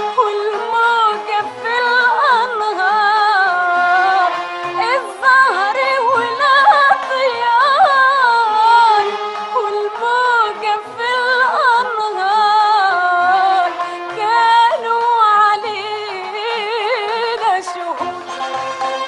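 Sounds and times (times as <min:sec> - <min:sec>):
string ensemble accompaniment: 0:00.0 - 0:19.0.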